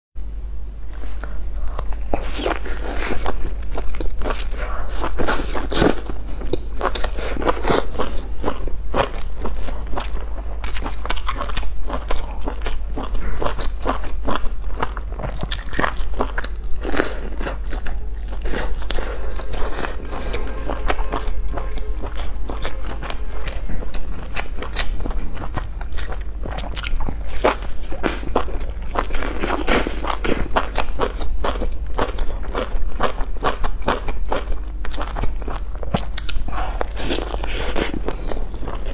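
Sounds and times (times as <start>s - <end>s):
steady low hum: 0.2s - 38.9s
crunchy chewing: 0.9s - 38.9s.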